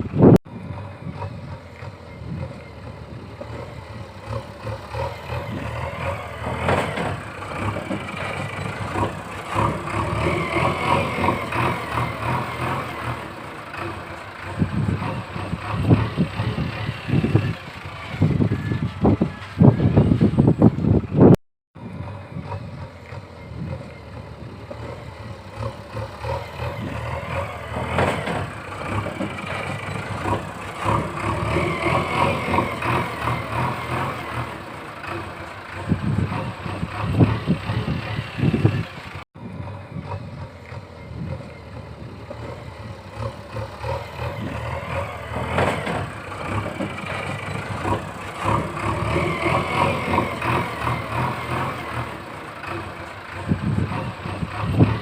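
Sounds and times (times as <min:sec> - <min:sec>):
heavy truck engine running: 0:00.0 - 0:55.0.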